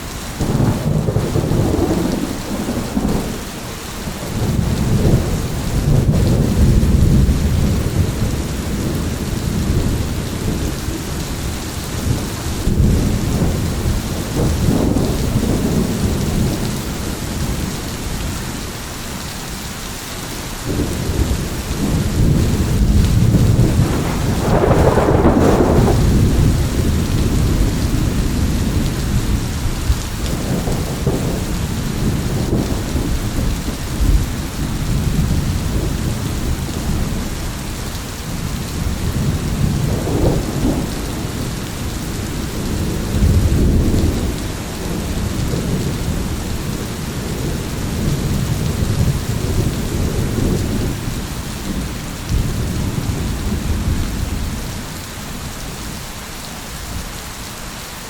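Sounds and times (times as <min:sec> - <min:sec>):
thunder rumbling: 0:00.0 - 0:18.7, 0:20.6 - 0:56.0
rain hissing: 0:00.0 - 0:58.0.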